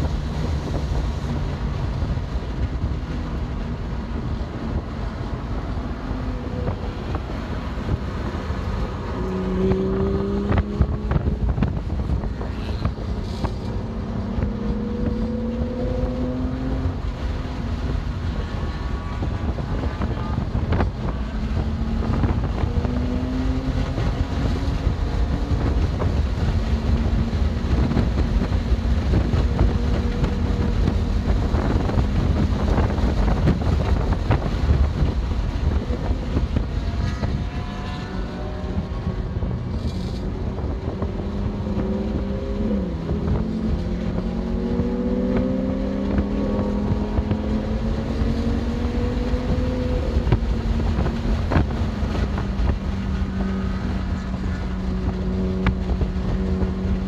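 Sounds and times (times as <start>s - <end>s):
heavy wind: 0.0s - 57.0s
road rumble: 0.0s - 57.0s
car engine revving hard: 6.1s - 57.0s.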